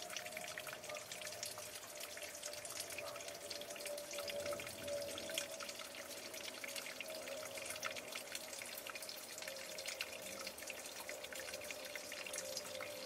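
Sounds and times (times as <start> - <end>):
liquid dripping into glass jar: 0.0 - 13.0.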